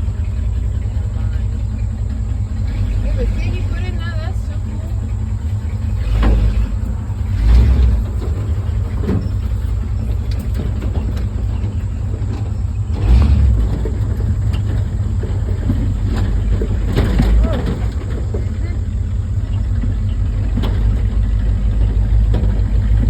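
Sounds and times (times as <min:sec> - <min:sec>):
farm vehicle engine rumbling: 0:00.0 - 0:23.0.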